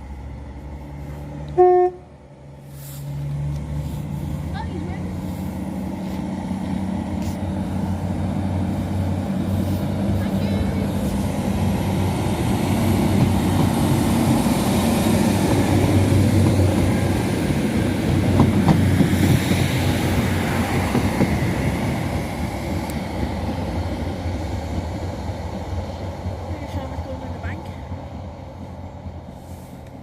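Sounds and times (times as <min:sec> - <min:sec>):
train engine and rail hum: 0:00.0 - 0:30.0.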